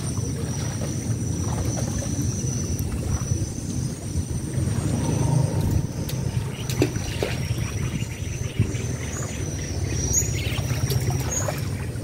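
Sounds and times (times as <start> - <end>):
low rumble: 0.0 - 11.2
high insect drone: 0.0 - 12.0.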